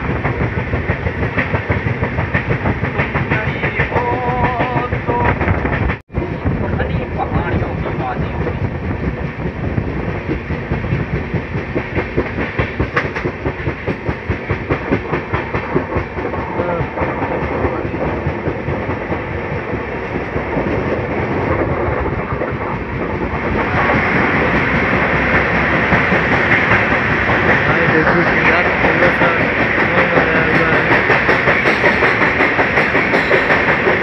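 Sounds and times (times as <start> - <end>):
train wheels clattering over rail joints: 0.0 - 6.0, 6.7 - 34.0
rushing air: 5.0 - 34.0.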